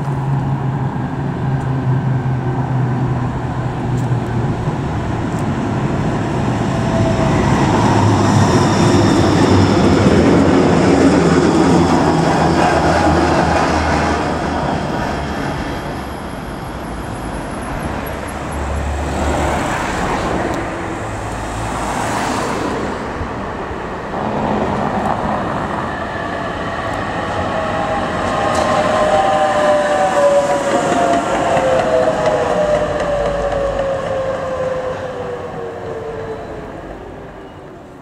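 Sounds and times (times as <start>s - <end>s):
tram whining on rails: 0.0s - 38.0s.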